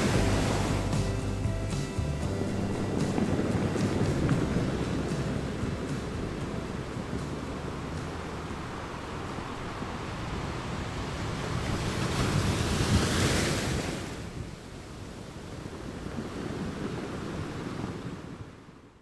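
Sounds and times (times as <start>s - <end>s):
surf: 0.0s - 18.6s
wind: 0.0s - 19.0s.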